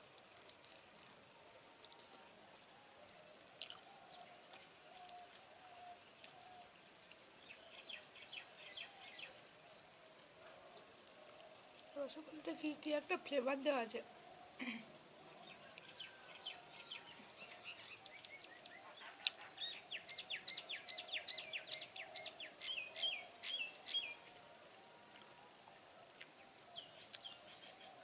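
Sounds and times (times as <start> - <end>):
songbird singing: 1.8 - 28.0.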